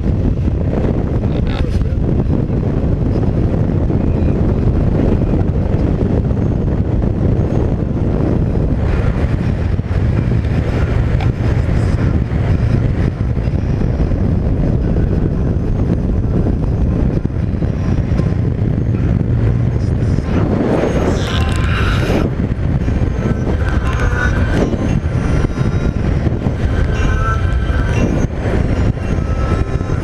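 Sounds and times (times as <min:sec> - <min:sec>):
vehicle cruising at speed: 0:00.0 - 0:30.0
wind buffeting microphone: 0:00.0 - 0:30.0.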